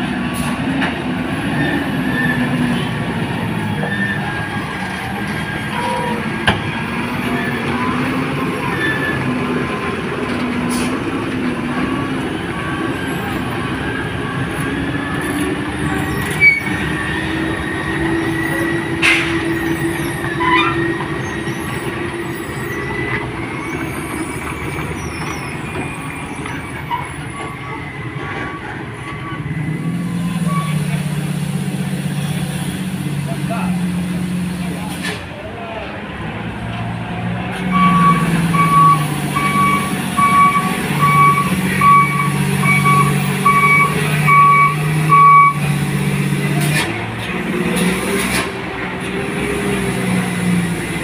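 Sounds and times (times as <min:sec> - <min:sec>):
heavy truck engine labouring: 0:00.0 - 0:51.0.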